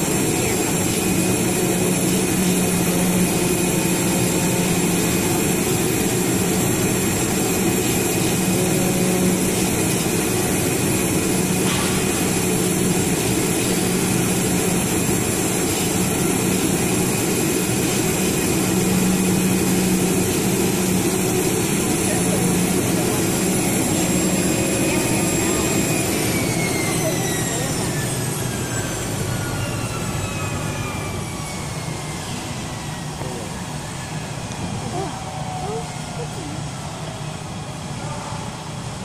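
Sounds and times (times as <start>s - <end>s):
cutting machine humming and hissing: 0.0s - 39.0s.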